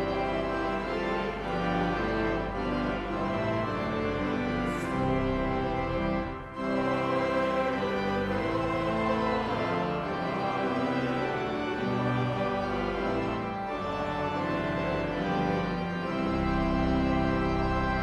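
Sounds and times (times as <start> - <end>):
deep bass organ chord: 0.0 - 18.0
organ chords: 0.0 - 18.0.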